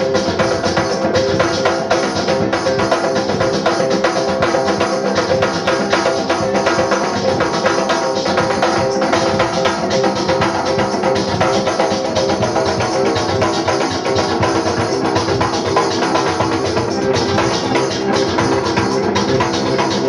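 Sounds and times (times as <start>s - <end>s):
drums and gong struck: 0.0s - 20.0s.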